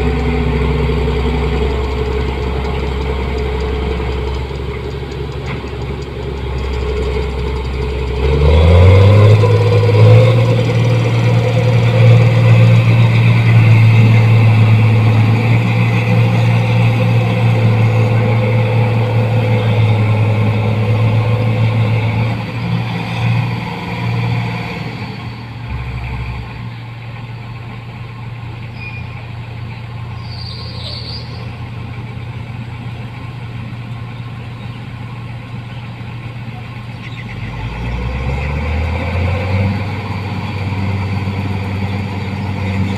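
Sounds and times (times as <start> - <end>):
harvester diesel engine revving: 0.0 - 42.9.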